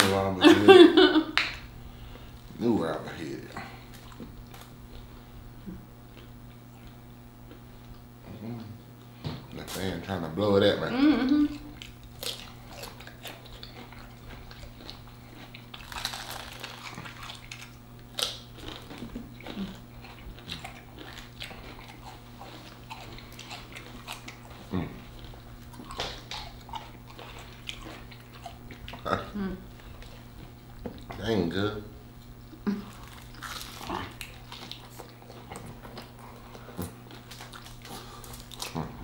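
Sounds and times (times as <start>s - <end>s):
steady low hum: 0.0s - 39.0s
person chewing crunchy food: 1.6s - 9.8s, 11.5s - 31.3s, 32.1s - 39.0s.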